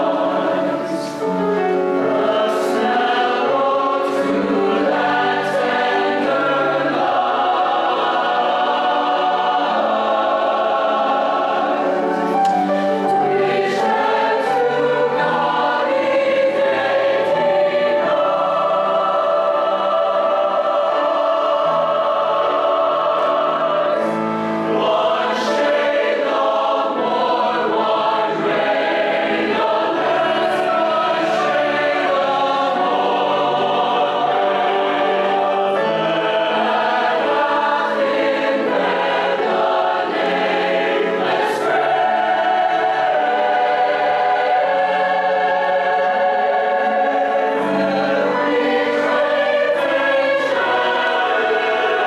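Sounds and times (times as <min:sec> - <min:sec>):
choir singing in harmony: 0:00.0 - 0:52.0.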